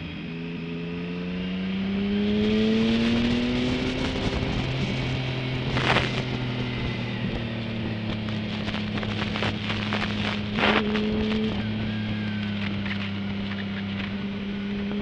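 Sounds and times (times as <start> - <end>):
motorcycle engine running: 0.0 - 15.0
wind noise on microphone: 1.9 - 15.0.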